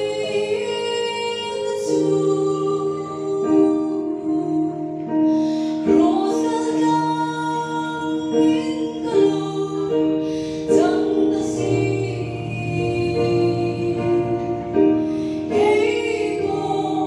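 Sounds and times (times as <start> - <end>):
two women singing a duet: 0.0 - 17.0.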